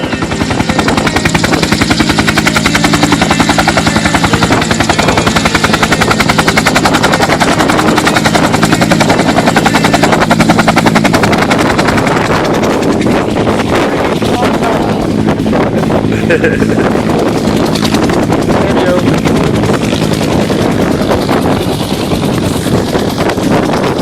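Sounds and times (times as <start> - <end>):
aircraft drone: 0.0 - 24.0
aircraft rapid pulsing beat: 0.0 - 24.0.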